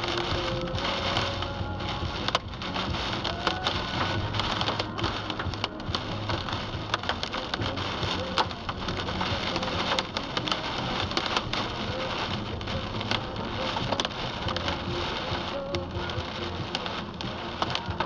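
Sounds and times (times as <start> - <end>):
heavy rain on car windscreen: 0.0 - 18.0
low road hum: 0.0 - 18.0.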